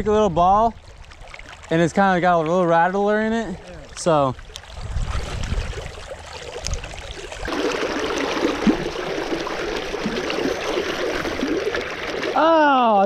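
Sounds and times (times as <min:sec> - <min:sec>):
creek water rushing and gurgling: 0:00.8 - 0:13.0.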